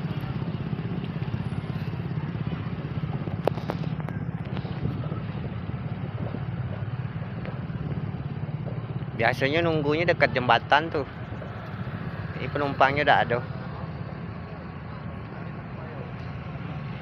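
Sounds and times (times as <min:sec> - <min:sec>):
engine chugging steadily: 0:00.0 - 0:17.0.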